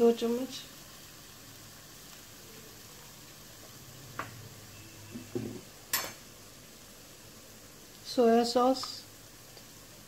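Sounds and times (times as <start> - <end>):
faint steady sizzle: 0.0 - 10.0.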